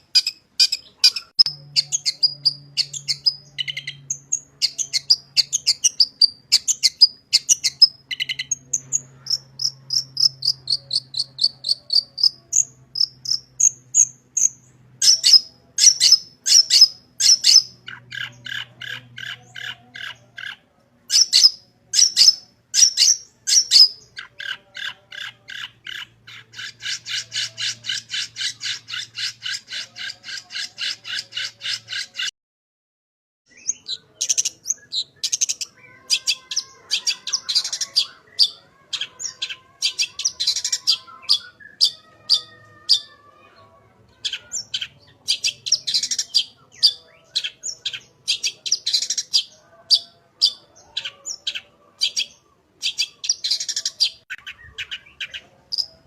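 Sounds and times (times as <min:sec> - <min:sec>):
bird singing varied song: 0:00.0 - 0:32.3, 0:33.5 - 0:56.0.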